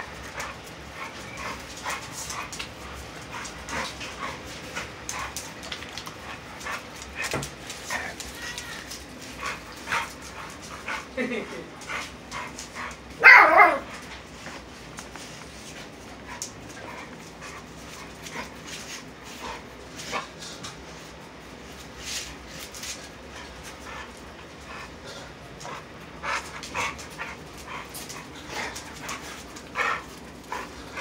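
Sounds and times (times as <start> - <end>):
dog panting: 0.0 - 13.1, 14.4 - 21.2, 22.2 - 31.0
dogs scuffling: 0.0 - 31.0.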